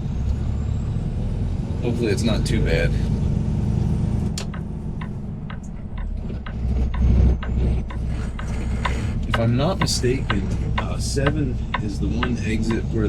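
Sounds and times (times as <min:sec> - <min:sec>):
diesel truck engine droning: 0:00.0 - 0:13.0
turn signal ticking: 0:01.8 - 0:13.0.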